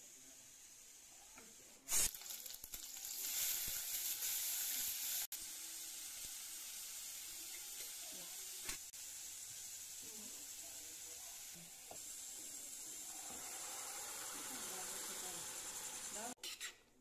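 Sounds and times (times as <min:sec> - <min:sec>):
onions sizzling in hot oil: 0:00.0 - 0:16.4.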